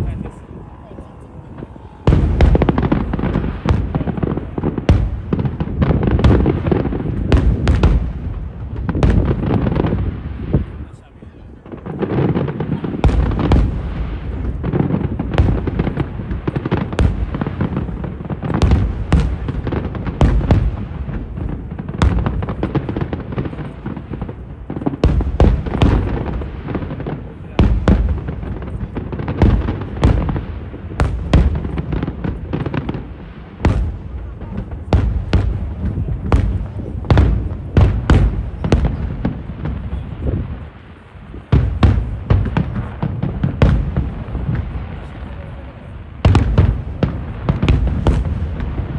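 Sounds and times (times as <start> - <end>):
fireworks bursting with sharp bangs: 0.0 - 48.9
low rumble of booms and echoes: 0.0 - 48.9.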